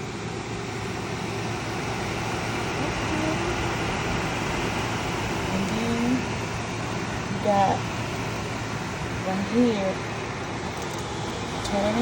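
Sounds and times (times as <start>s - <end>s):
dehumidifier running: 0.0s - 12.0s.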